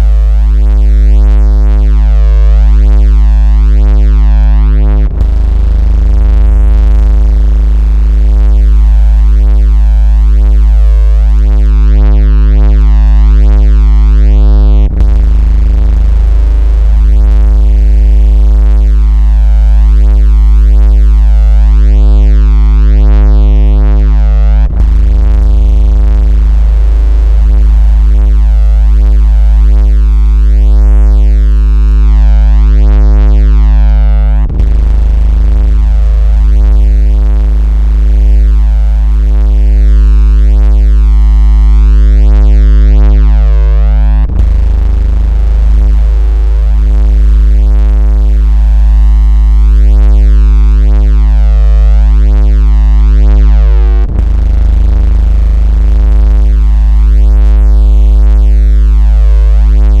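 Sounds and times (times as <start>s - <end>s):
deep synthesized bass tone: 0.0s - 60.0s.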